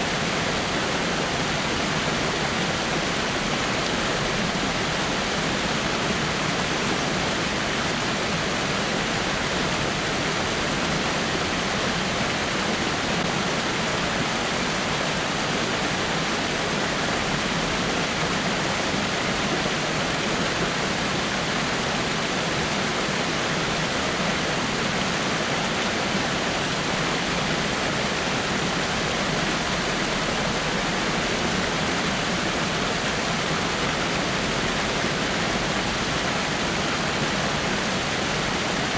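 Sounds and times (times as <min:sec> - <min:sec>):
waterfall splashing over rocks: 0:00.0 - 0:38.9.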